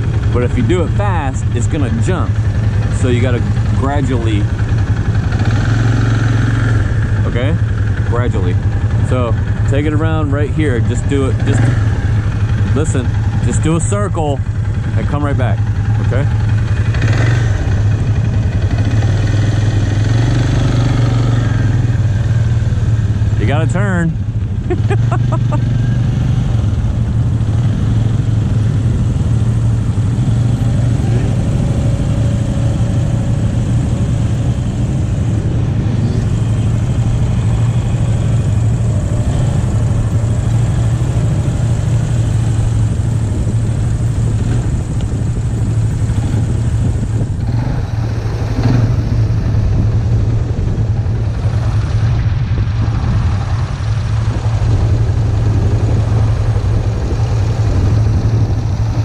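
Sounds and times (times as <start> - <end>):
quad bike engine idling: 0.0 - 59.0.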